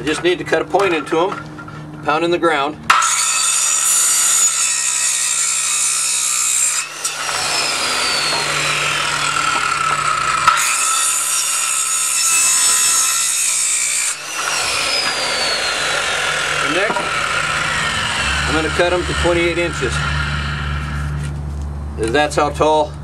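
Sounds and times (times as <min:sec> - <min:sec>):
circular saw cutting wood: 0:02.9 - 0:21.4.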